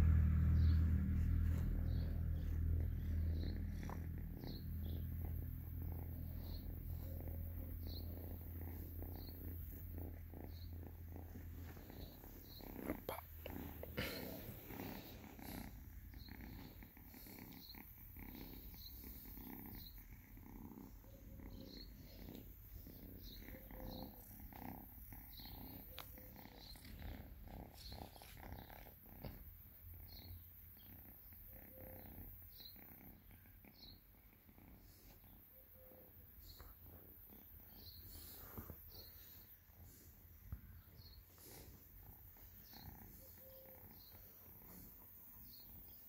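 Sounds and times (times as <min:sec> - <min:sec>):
kitten purring: 0:00.0 - 0:46.0.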